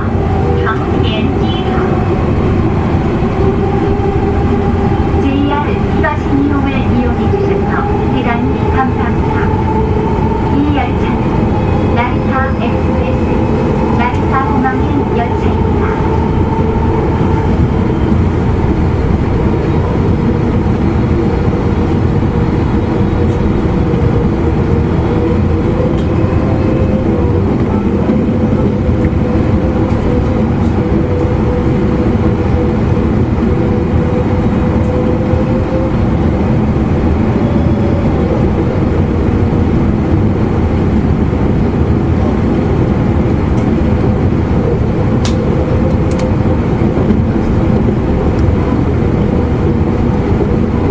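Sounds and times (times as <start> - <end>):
wheels rumbling on rail: 0.0 - 50.9.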